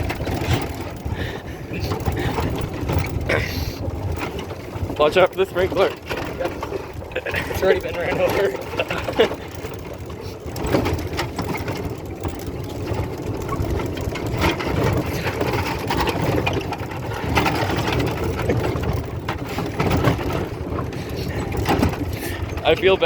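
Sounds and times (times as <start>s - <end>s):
golf cart engine rumble: 0.0s - 23.0s
knocks and rattles over bumps: 0.0s - 23.0s.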